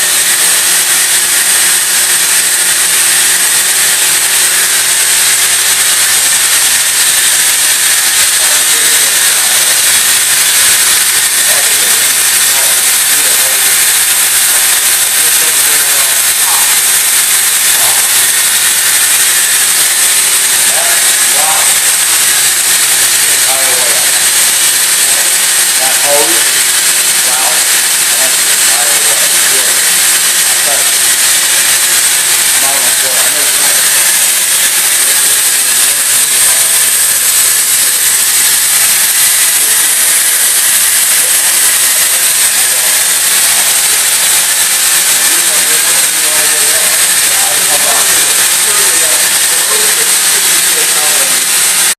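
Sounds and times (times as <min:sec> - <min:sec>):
steady loud hiss: 0:00.0 - 0:51.9.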